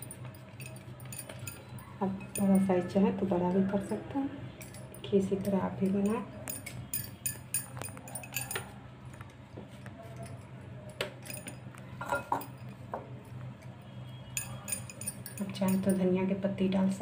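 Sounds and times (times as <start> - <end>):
bangles knocking together: 0.0 - 13.2, 14.3 - 16.0
light clinks on ceramic: 0.0 - 16.1.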